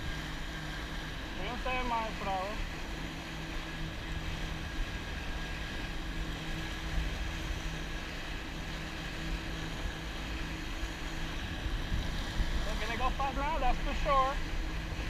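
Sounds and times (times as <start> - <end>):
jet ski engine running: 0.0 - 15.0
rush of churned water: 0.0 - 15.0.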